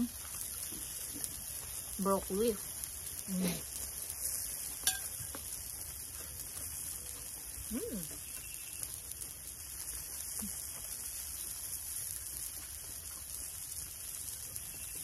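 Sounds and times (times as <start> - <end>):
meat sizzling on grill: 0.0 - 15.0.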